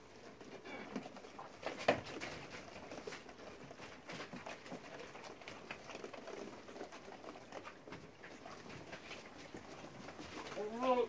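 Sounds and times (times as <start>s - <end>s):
goat hooves shuffling and knocking: 0.0s - 11.0s.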